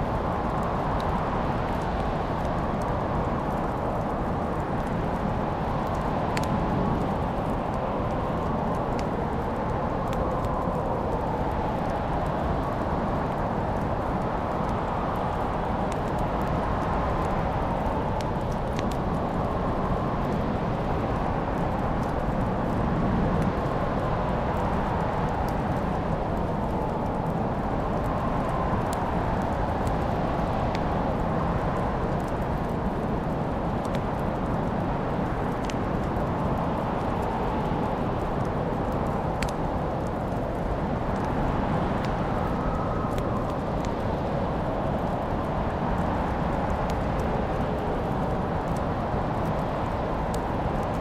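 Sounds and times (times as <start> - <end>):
steady rushing noise: 0.0 - 51.0
wood fire crackling: 0.0 - 51.0.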